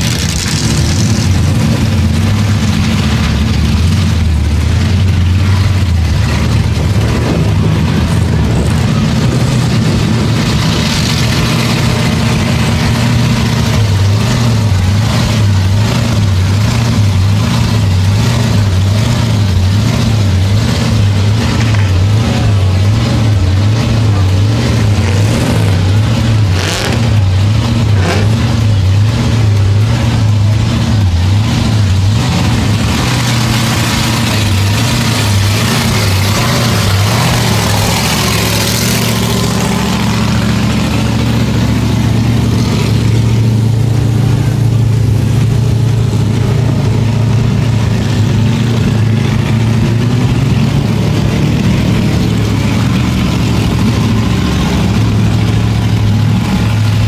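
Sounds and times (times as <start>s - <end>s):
car engine idling unevenly: 0.0s - 57.0s.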